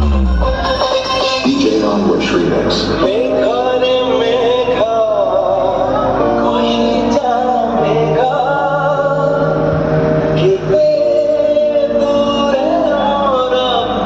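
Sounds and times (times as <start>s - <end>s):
person singing: 0.0s - 14.0s
song accompaniment over sound system: 0.0s - 14.0s.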